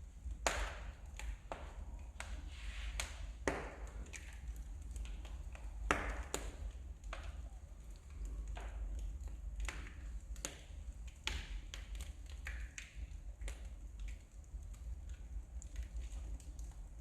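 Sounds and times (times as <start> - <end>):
burning logs popping and snapping: 0.0 - 17.0
wood fire crackling: 0.0 - 17.0.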